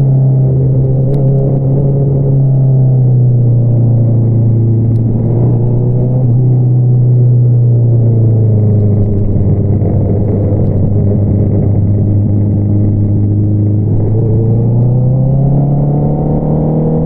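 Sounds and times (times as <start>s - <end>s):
motorcycle engine droning: 0.0s - 17.0s.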